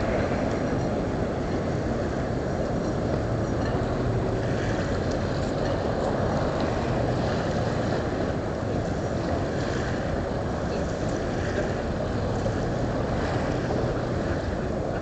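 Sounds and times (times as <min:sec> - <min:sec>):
small waves washing: 0:00.0 - 0:15.0
wind rumbling on microphone: 0:00.0 - 0:15.0.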